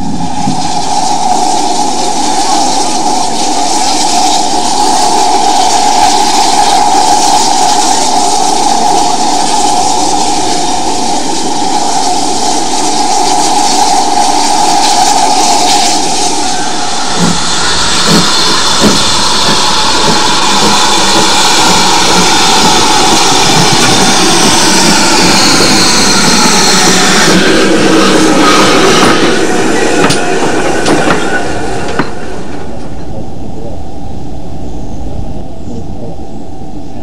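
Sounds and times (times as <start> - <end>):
locomotive steam hissing: 0.0 - 37.0
steady tone: 0.0 - 37.0.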